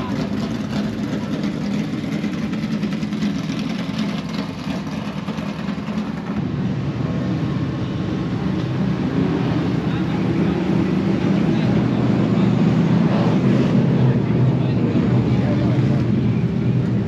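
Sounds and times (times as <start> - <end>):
stock car engines rumbling: 0.0 - 17.0.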